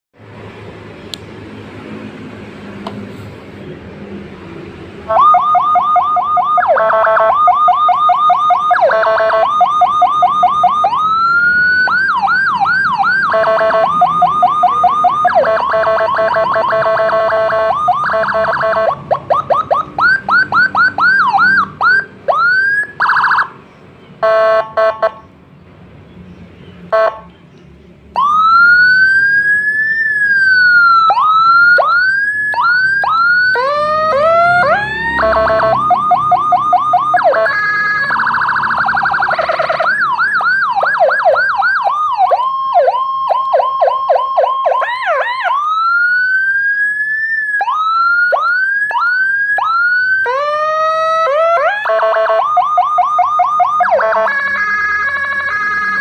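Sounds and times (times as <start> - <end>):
electronic fire truck siren: 5.1 - 23.6, 24.2 - 25.2, 26.9 - 27.3, 28.1 - 56.0.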